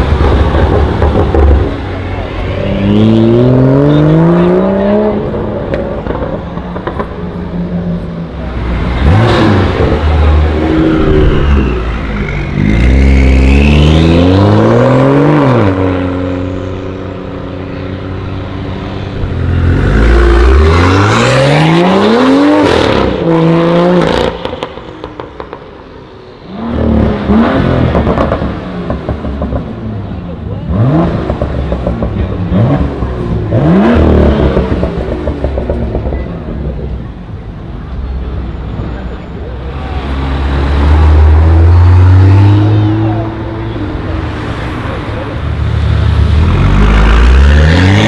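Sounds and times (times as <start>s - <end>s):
car engines accelerating hard: 0.0s - 48.0s.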